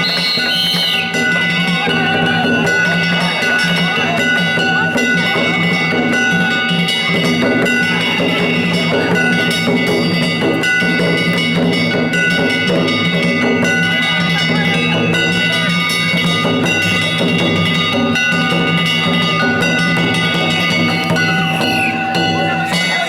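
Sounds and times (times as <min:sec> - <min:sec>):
drums beating a driving rhythm: 0:00.0 - 0:23.0
small metal gongs clanging: 0:00.0 - 0:23.0.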